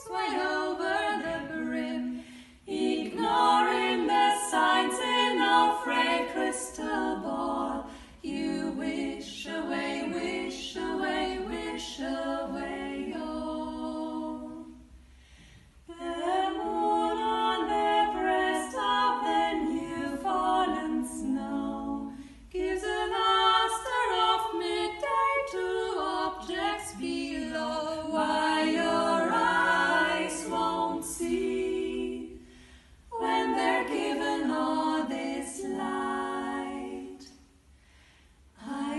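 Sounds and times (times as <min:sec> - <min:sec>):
female vocal quartet singing: 0:00.0 - 0:38.9.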